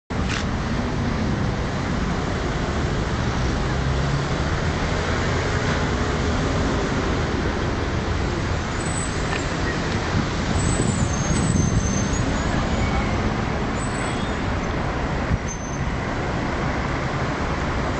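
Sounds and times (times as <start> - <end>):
city traffic hum: 0.1 - 17.9.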